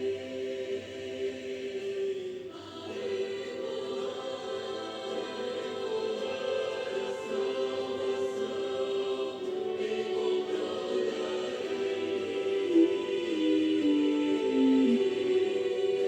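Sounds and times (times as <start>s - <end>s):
clarinets playing hymn: 2.9s - 16.0s.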